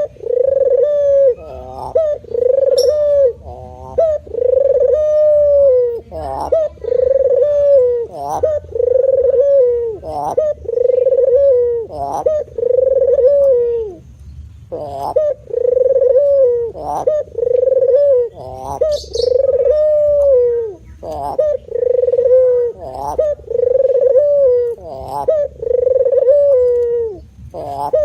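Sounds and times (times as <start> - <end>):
dove cooing: 0.0 - 28.0.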